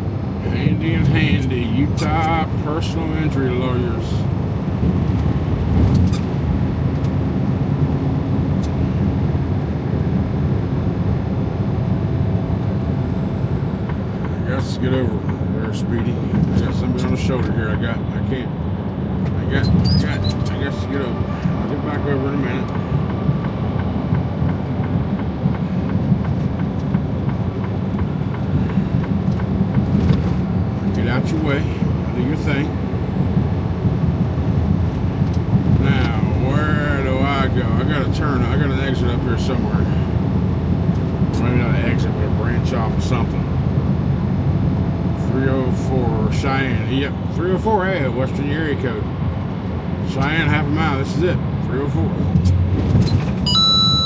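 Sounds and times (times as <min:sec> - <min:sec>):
truck engine and road rumble: 0:00.0 - 0:54.0.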